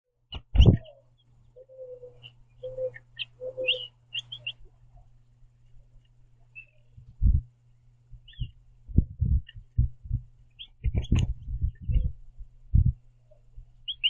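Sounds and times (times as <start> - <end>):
faint low hum: 0.1 - 14.0
small birds chirping: 0.2 - 14.0.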